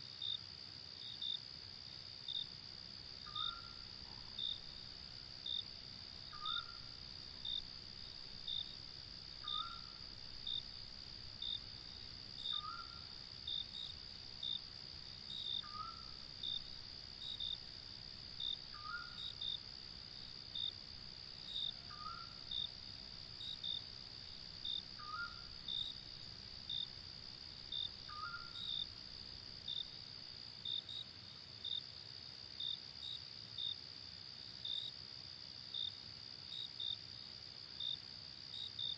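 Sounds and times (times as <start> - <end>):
crickets trilling and chirping: 0.0 - 38.9.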